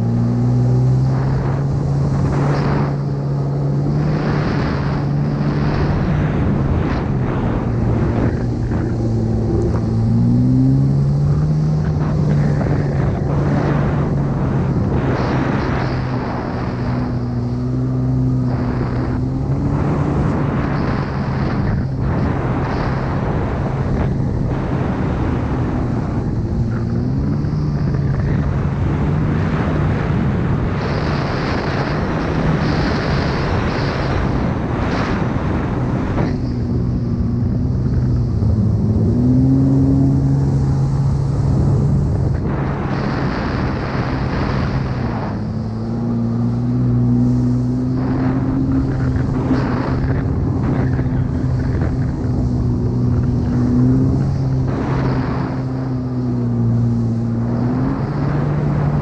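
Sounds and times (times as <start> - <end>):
jet ski engine running: 0.0 - 59.0
wind and water spray rushing: 0.1 - 59.0.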